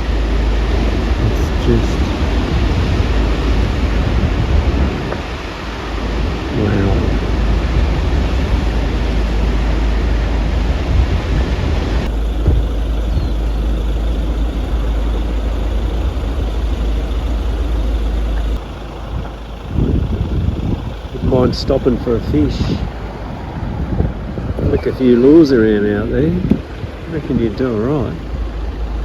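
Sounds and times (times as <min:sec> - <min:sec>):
wind buffeting microphone: 0:00.8 - 0:09.3, 0:10.8 - 0:29.0.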